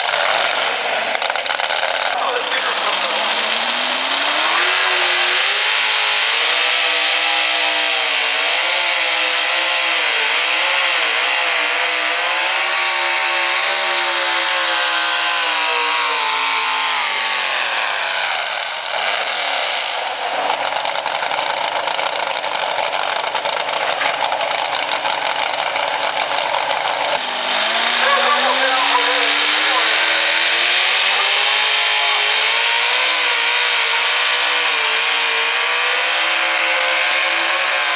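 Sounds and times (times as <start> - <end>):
truck engine revving high: 0.0 - 37.9.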